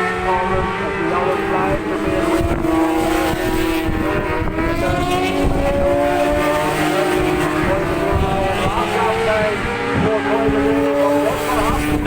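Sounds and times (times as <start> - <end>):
motorbike engines running hard: 0.0 - 12.0
wind buffeting on microphone: 0.3 - 12.0.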